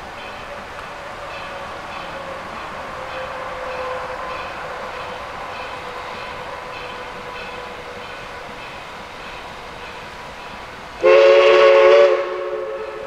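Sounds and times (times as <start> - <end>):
steady background hiss: 0.0 - 13.0
steam locomotive chime whistle: 0.0 - 13.0.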